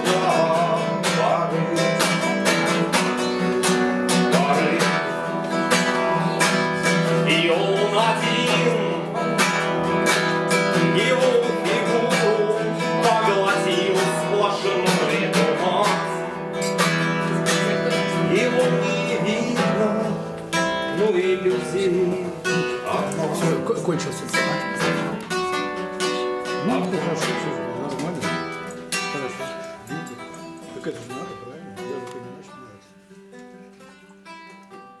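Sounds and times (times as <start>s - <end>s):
acoustic classical guitar: 0.0s - 35.0s.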